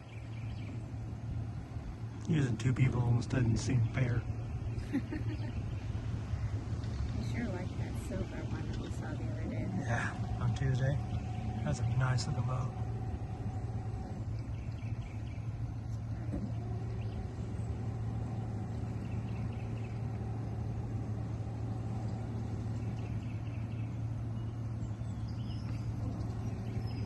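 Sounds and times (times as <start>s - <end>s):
low engine hum: 0.0s - 27.0s
faint bird chirps: 3.4s - 27.0s.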